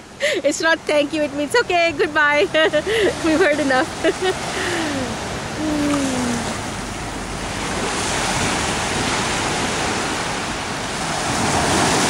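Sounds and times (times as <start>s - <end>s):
small waves washing on beach: 0.0s - 12.0s.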